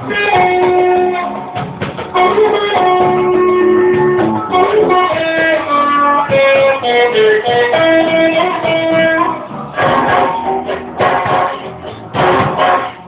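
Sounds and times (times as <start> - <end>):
guitar melody: 0.0 - 13.0
strummed guitar chords: 0.0 - 13.0.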